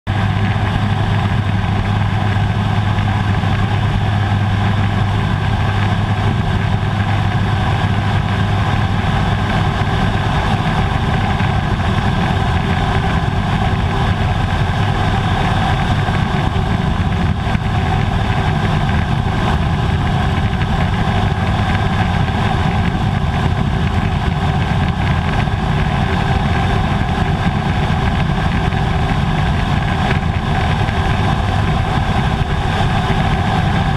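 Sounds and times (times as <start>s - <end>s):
turboprop aircraft engine drone: 0.0s - 33.9s.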